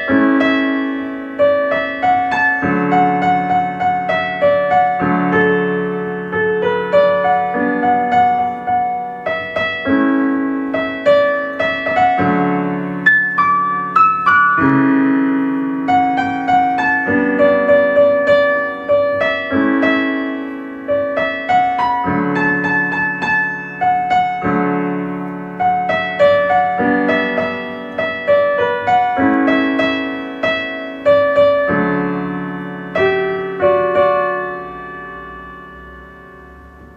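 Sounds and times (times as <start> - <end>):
slow gentle piano music: 0.0 - 36.9.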